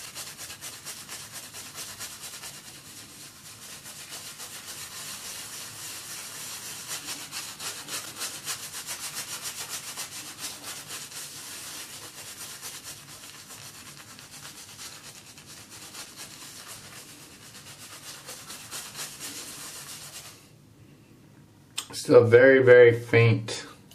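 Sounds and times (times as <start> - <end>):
shaving brush rubbing lather: 0.0 - 20.5.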